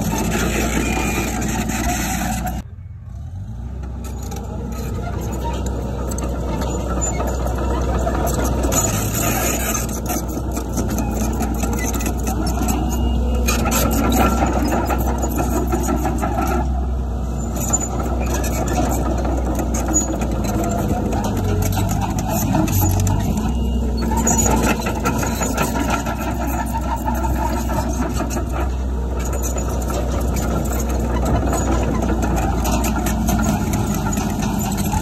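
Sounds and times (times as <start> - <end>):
heavy machinery diesel engine: 0.0 - 35.0.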